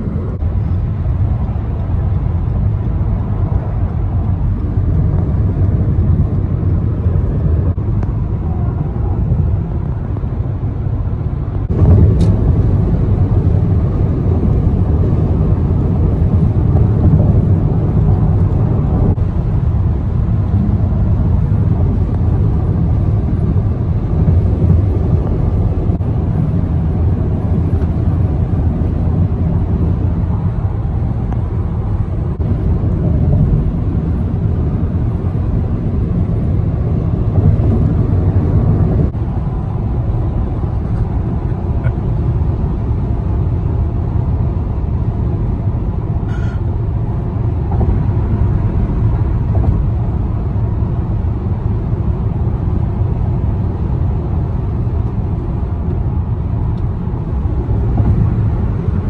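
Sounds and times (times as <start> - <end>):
car road noise inside cabin: 0.0 - 59.0.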